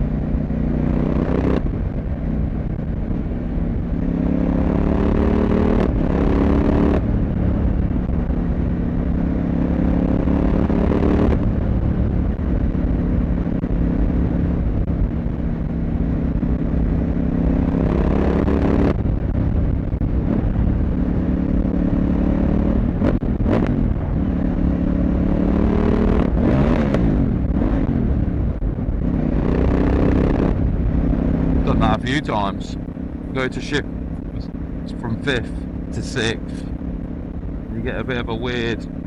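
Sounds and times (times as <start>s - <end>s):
motorcycle engine and exhaust: 0.0s - 39.0s.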